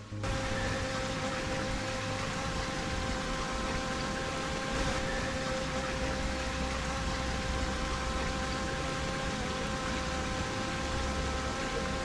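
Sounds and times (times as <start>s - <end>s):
faint steady hum: 0.0s - 12.0s
flowing creek water: 0.0s - 12.0s.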